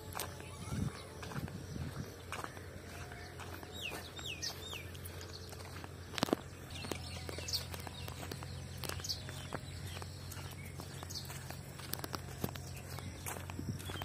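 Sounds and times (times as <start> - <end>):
donkey hooves clopping on dirt: 0.0 - 14.0
small birds chirping: 0.0 - 14.0.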